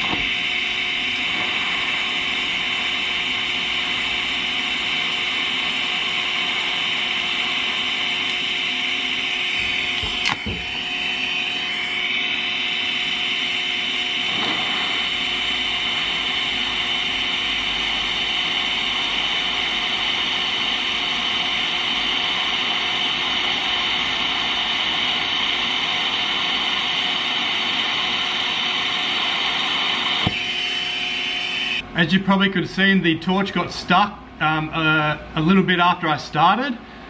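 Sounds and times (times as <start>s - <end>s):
welding torch hiss: 0.0s - 31.8s.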